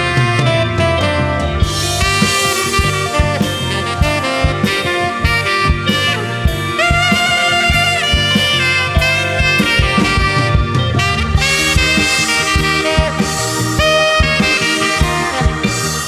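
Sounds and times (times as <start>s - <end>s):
bass: 0.0s - 16.0s
keyboards: 0.0s - 16.0s
saxophone solo: 0.0s - 16.0s
drum beat: 1.6s - 16.0s.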